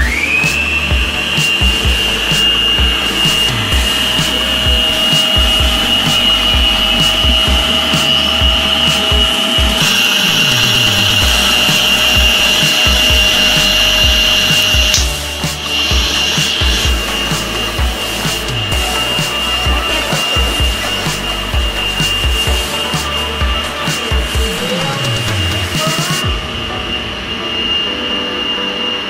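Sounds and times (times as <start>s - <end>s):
stand mixer motor whining: 0.0s - 26.3s.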